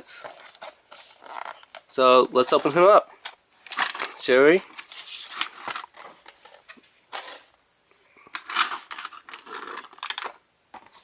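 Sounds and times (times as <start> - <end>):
packaging rustling and scraping: 0.1 - 7.5, 8.3 - 11.0.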